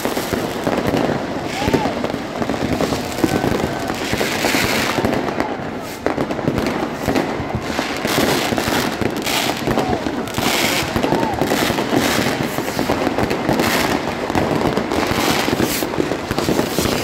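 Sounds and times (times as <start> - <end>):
firecrackers popping: 0.0 - 17.0
rockets bursting: 0.0 - 17.0.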